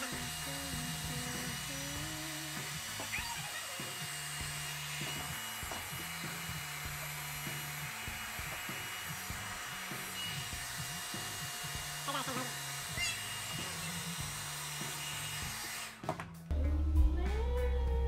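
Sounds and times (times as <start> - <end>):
hair dryer blowing: 0.0 - 16.1.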